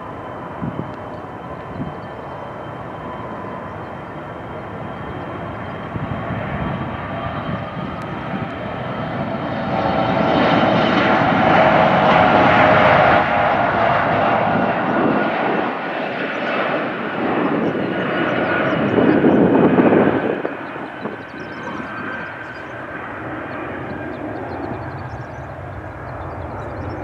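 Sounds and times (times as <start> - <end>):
jet engines with thin whine: 0.0 - 27.0.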